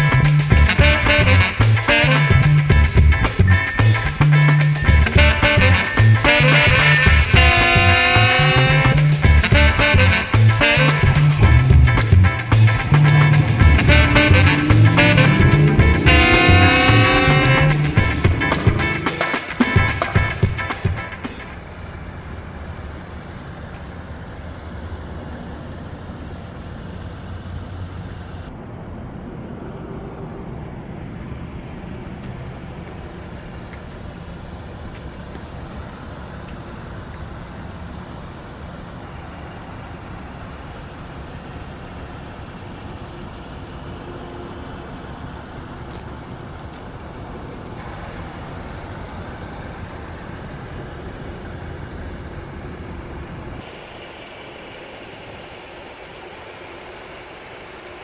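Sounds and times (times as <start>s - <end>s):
car engine idling: 0.0s - 28.8s, 31.0s - 58.0s.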